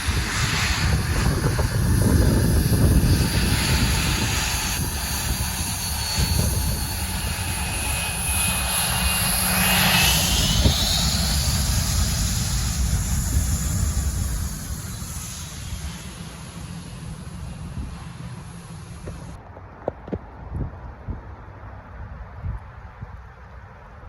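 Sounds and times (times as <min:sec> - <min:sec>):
airliner engines passing: 0:00.0 - 0:24.0.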